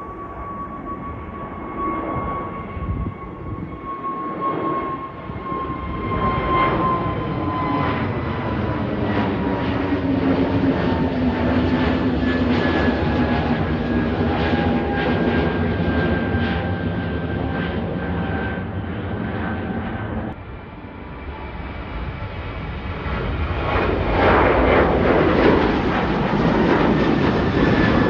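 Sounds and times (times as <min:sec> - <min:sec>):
airliner engines whining: 0:00.0 - 0:28.0.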